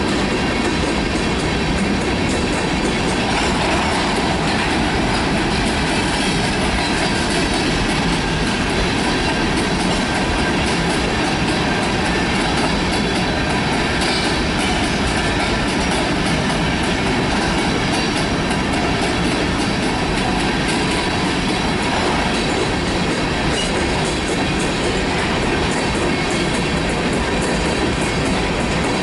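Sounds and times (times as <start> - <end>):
steel wheels rolling on rails: 0.0 - 29.0
wheels clattering over rail joints: 0.0 - 29.0.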